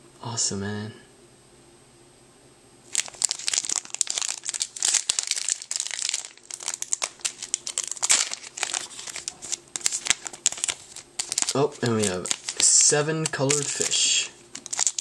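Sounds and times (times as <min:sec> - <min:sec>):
foil wrapper tearing and crinkling: 0:02.9 - 0:15.0.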